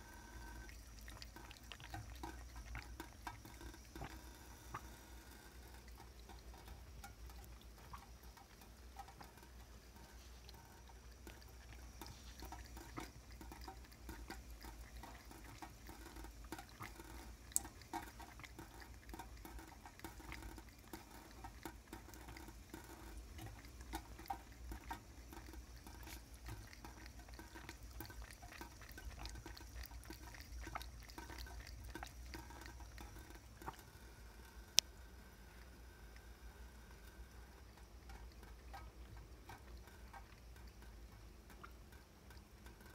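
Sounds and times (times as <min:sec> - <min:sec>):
cat lapping water: 0:00.0 - 0:42.9.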